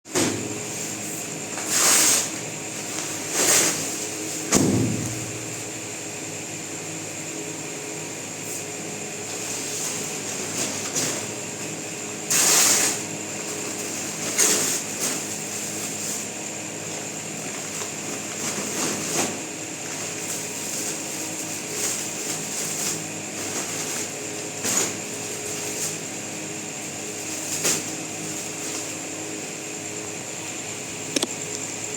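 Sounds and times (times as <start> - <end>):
fan-like hum: 0.0 - 31.9.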